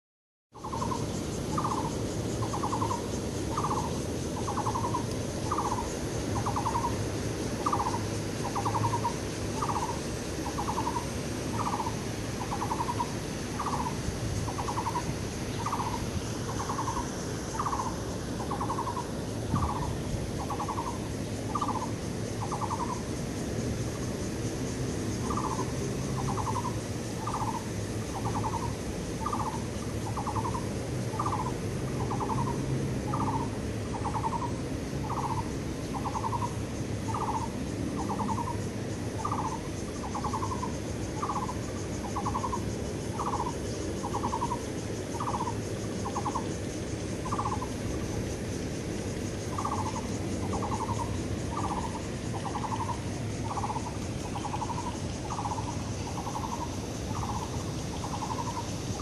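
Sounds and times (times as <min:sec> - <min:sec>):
high-pitched insect drone: 0:00.6 - 0:59.0.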